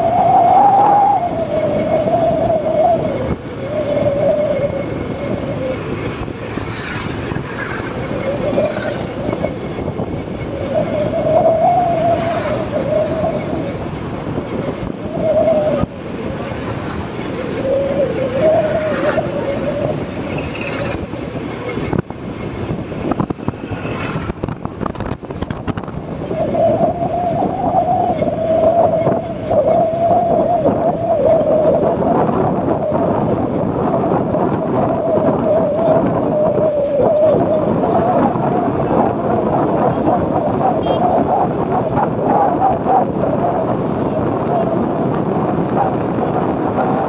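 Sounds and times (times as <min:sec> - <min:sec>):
engine drone: 0:00.0 - 0:47.0
road noise: 0:00.0 - 0:47.0
wind buffeting: 0:00.0 - 0:47.0.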